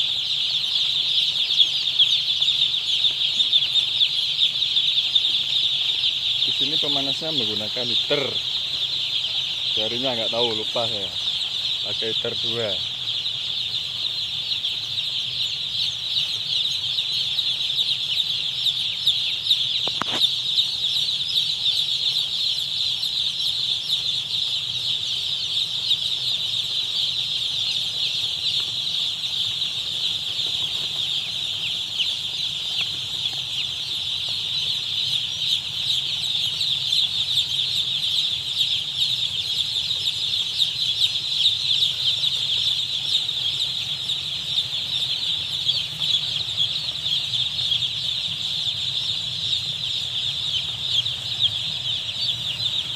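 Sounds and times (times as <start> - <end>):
chicks peeping in chorus: 0.0 - 52.9.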